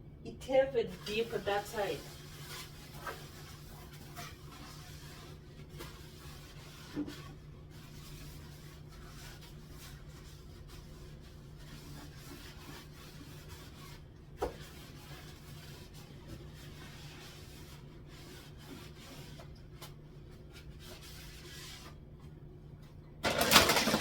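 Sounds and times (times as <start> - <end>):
towel rubbing inside cupboard: 0.5 - 22.1.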